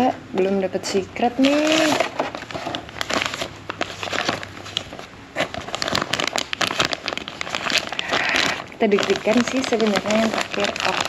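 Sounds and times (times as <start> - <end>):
plastic packaging crinkling: 1.2 - 11.0.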